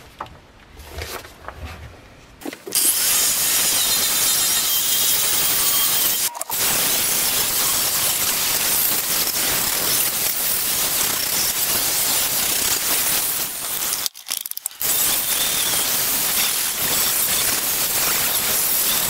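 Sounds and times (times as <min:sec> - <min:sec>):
angle grinder sanding metal: 0:02.8 - 0:14.1, 0:14.7 - 0:19.0.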